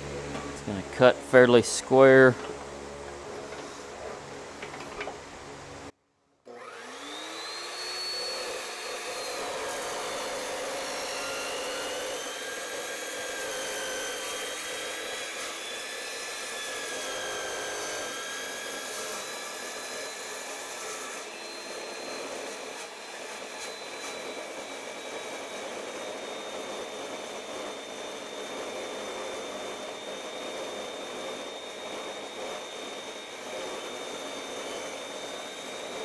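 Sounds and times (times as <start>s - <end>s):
chop saw whining: 6.5s - 36.0s
saw cutting through steel: 6.5s - 36.0s.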